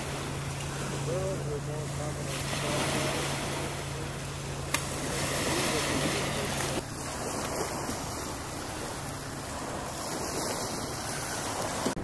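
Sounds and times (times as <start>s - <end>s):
waves: 0.0s - 12.0s.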